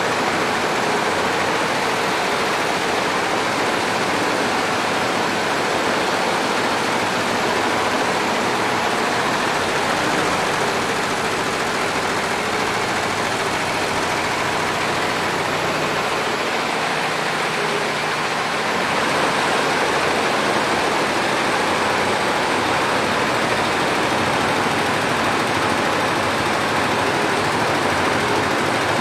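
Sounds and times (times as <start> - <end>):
embroidery machine running: 0.0 - 29.0.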